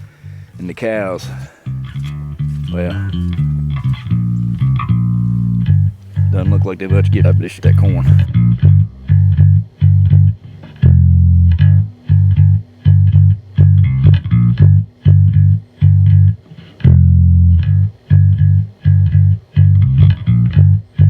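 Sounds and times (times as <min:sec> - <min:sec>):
guitar: 0:00.0 - 0:21.0
plucked bass guitar line: 0:00.0 - 0:21.0.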